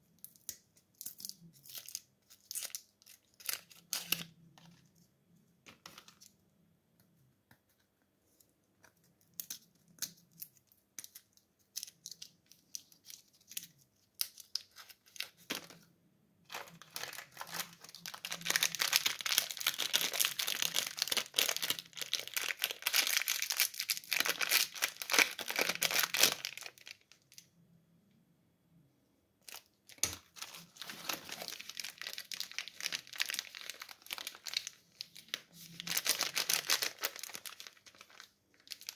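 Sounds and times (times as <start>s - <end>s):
plastic sweet wrappers crinkling: 0.2s - 4.9s, 9.0s - 15.8s, 16.5s - 27.5s, 29.4s - 38.9s.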